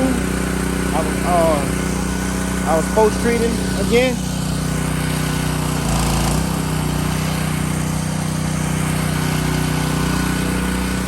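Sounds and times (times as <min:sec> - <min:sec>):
pressure washer engine running: 0:00.0 - 0:11.0.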